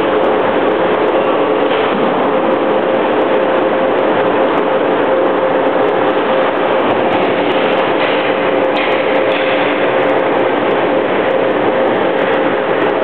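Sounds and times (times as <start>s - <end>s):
constant hum: 0.0s - 13.0s.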